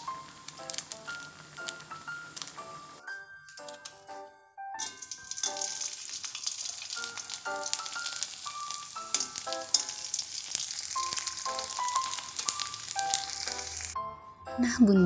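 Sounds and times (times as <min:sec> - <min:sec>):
oil sizzling in a wok: 0:00.0 - 0:03.1, 0:04.8 - 0:14.1
background music: 0:00.0 - 0:15.0.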